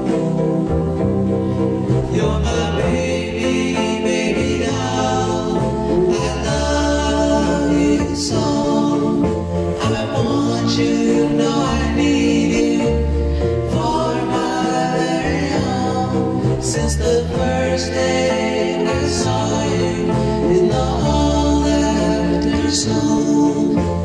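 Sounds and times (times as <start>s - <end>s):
low bass notes: 0.0s - 24.0s
vocal group singing in harmony: 0.0s - 24.0s.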